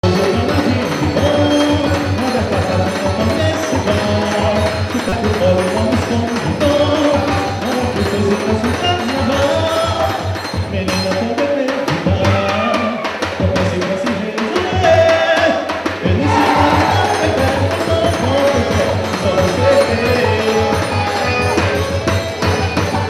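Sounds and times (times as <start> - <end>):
music with steady drum beat: 0.0 - 23.0
sharp percussion clicks: 0.0 - 23.0.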